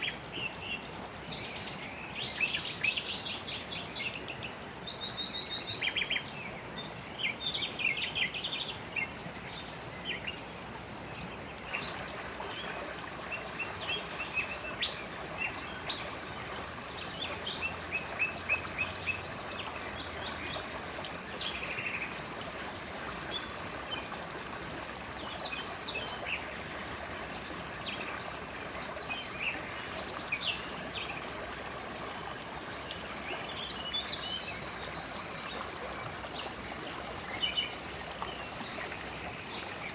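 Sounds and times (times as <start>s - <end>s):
river flowing: 0.0s - 39.9s
songbirds chirping and trilling: 0.0s - 39.9s.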